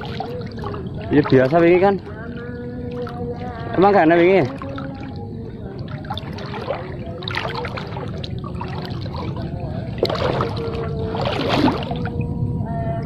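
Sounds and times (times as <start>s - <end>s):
water sloshing from wading: 0.0s - 12.9s.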